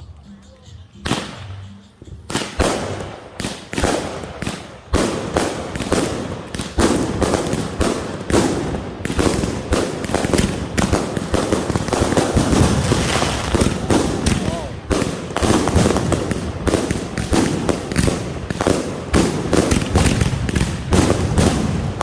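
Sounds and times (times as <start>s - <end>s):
fireworks bangs and crackles: 1.0s - 1.5s, 2.2s - 22.0s.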